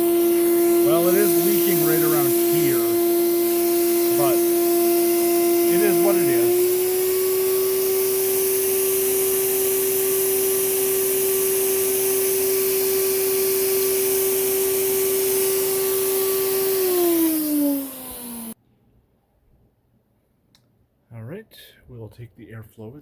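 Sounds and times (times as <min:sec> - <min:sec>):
vacuum motor whining: 0:00.0 - 0:18.6.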